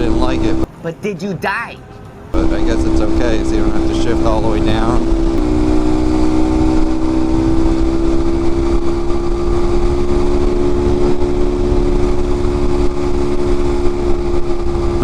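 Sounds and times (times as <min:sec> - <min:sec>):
motorcycle engine cruising: 0:00.0 - 0:00.7, 0:02.3 - 0:15.0.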